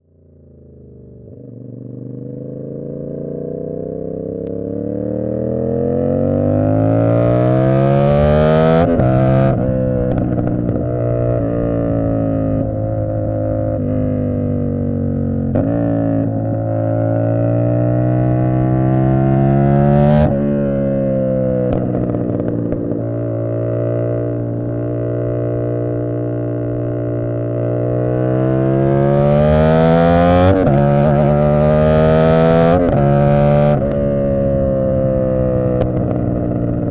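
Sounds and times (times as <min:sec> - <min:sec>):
motorcycle engine accelerating: 0:00.1 - 0:36.9.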